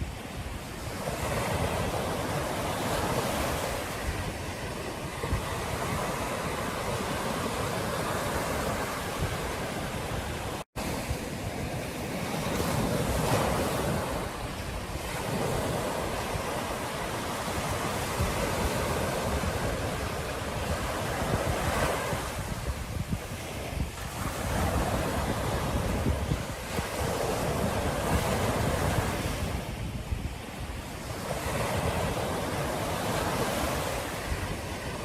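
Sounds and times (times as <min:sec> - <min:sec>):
ocean surf washing onto beach: 0:00.0 - 0:35.0
wind buffeting microphone: 0:00.0 - 0:35.0.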